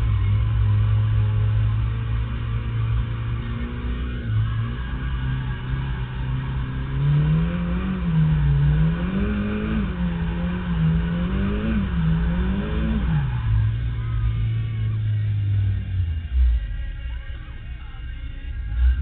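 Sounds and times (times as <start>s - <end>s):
turbocharged car engine revving: 0.0s - 19.0s.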